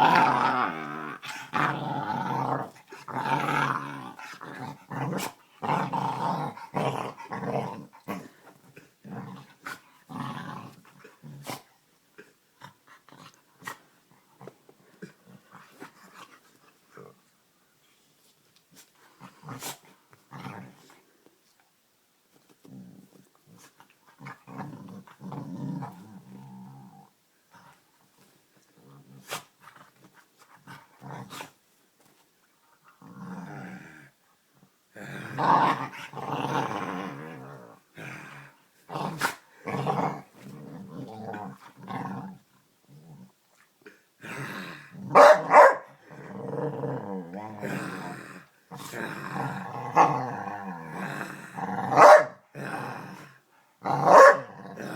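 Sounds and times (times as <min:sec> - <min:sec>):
dog growling in play: 0:00.0 - 0:17.2, 0:19.0 - 0:21.0, 0:22.6 - 0:27.8, 0:28.7 - 0:31.6, 0:32.9 - 0:34.2, 0:34.9 - 0:54.9.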